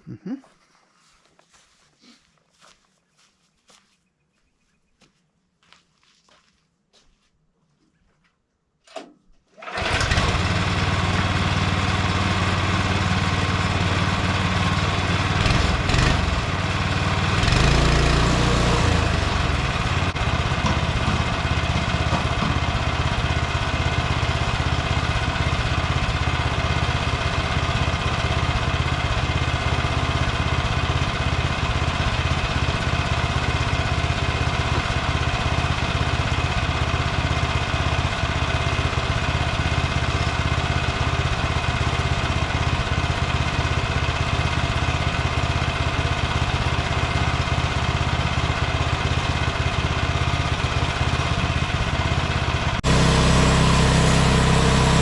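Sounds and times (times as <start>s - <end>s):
small gasoline engine running: 9.6s - 55.0s.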